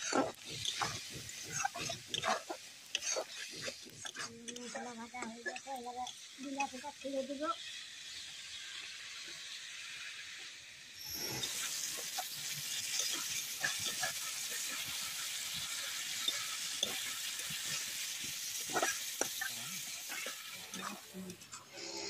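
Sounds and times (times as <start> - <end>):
spatula scraping a pan: 0.0 - 6.8, 11.0 - 22.0
gravy sizzling in a pan: 0.0 - 22.0.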